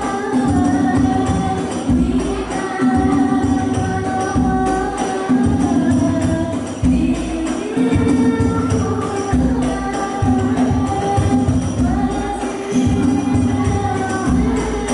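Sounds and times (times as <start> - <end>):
frame drums and jingles beating: 0.0 - 14.9.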